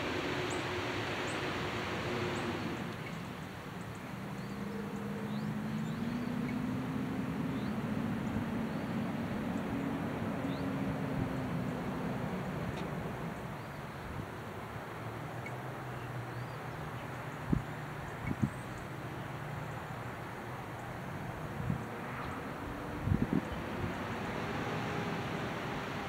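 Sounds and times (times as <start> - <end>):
low vehicle hum: 0.0 - 26.0
passing vehicle hiss: 0.0 - 26.0.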